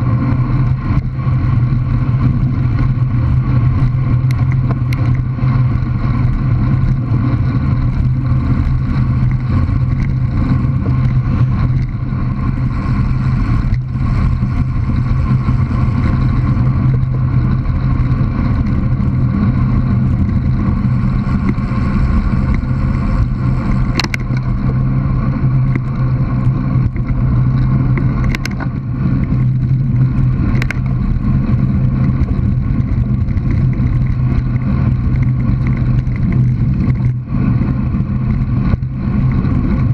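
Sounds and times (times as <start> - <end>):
road vibration: 0.0 - 39.9
wind rumble: 0.0 - 39.9.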